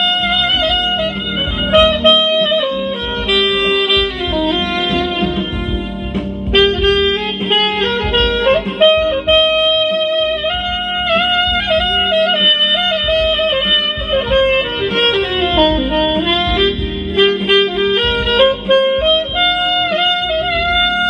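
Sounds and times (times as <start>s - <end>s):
soprano saxophone melody: 0.0s - 21.0s.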